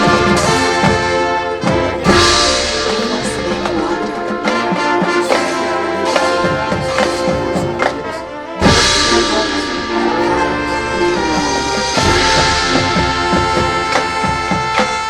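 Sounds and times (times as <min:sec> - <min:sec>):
brass chords: 0:00.0 - 0:15.0
drum strikes: 0:00.0 - 0:15.0
marching band playing: 0:00.0 - 0:15.0.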